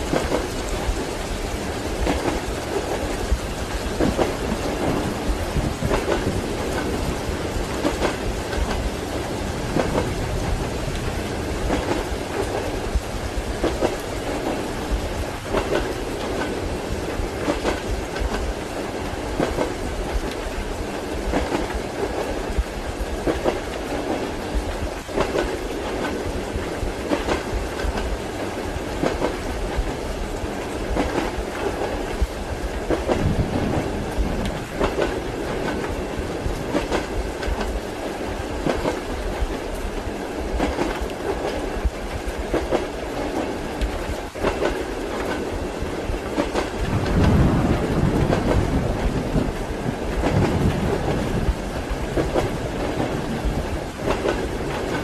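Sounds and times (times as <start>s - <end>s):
train wheels clacking over joints: 0.0s - 39.9s, 40.6s - 55.0s
railway carriage rumble: 0.0s - 55.0s.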